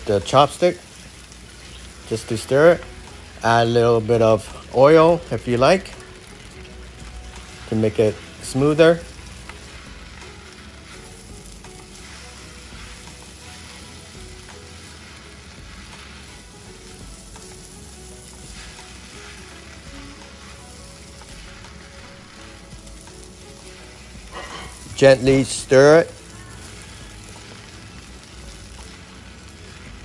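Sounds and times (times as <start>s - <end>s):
noodles sizzling in oil: 0.0s - 30.0s.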